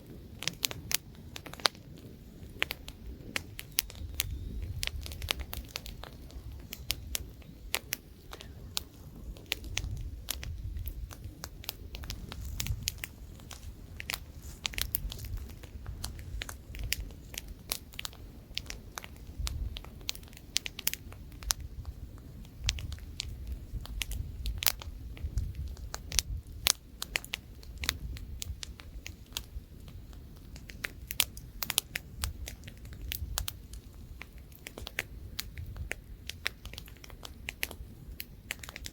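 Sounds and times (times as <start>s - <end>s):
campfire crackling and popping: 0.0s - 38.9s
light wind rumble: 0.0s - 38.9s.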